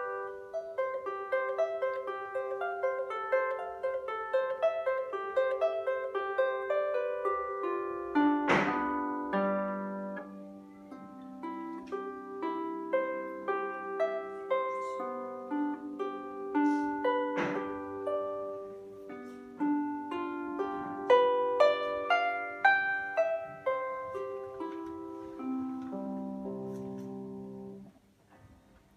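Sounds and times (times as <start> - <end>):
solo harp plucked: 0.0 - 27.9.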